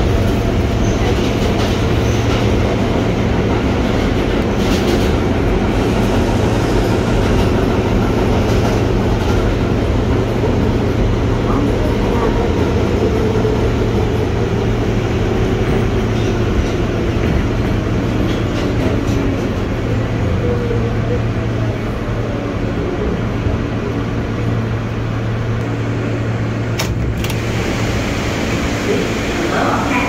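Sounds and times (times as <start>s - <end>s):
subway train wheels on rails: 0.0s - 30.0s.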